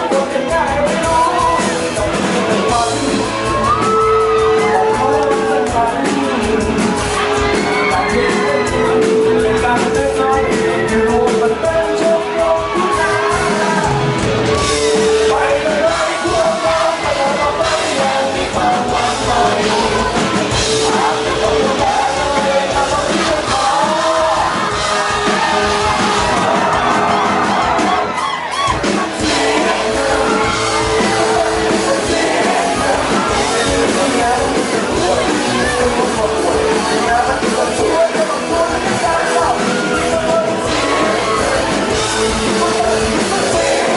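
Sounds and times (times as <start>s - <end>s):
person singing long notes: 0.0s - 27.9s, 29.2s - 43.9s
rock guitar and drums: 0.0s - 43.9s
people yelling along: 3.2s - 5.7s, 7.0s - 11.2s, 12.1s - 17.6s, 19.1s - 43.9s.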